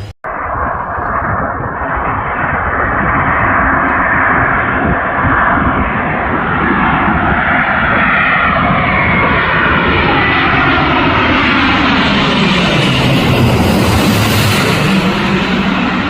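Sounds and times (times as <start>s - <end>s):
jet airliner flying overhead: 0.0s - 16.0s.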